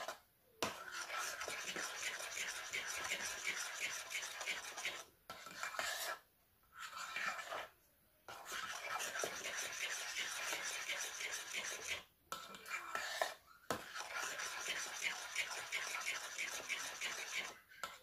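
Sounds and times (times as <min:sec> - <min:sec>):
spatula scraping glass bowl: 0:00.0 - 0:07.7, 0:08.3 - 0:18.0.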